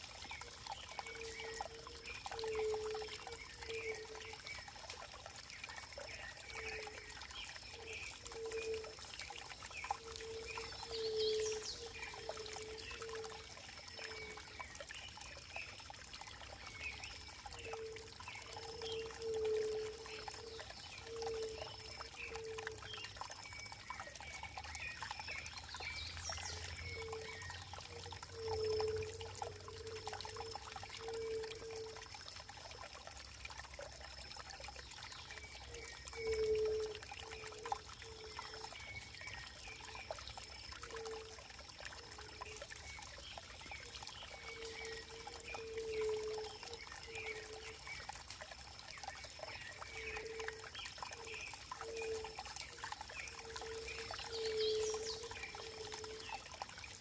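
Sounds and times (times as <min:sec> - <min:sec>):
water trickling and pouring: 0:00.0 - 0:57.0.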